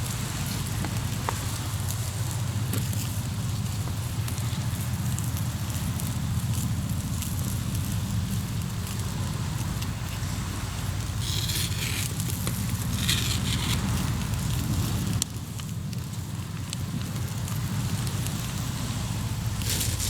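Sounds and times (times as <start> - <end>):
campfire crackling and popping: 0.0 - 20.0
fire low rumble: 0.0 - 20.0
fire hissing: 0.1 - 20.0.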